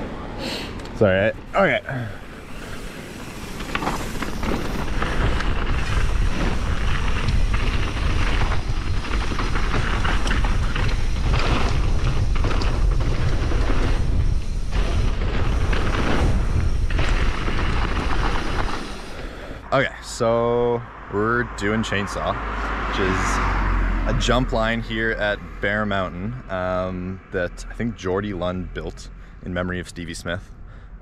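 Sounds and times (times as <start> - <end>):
bike tyres rolling over dirt: 1.0 - 30.8
wind buffeting microphone: 1.2 - 31.0.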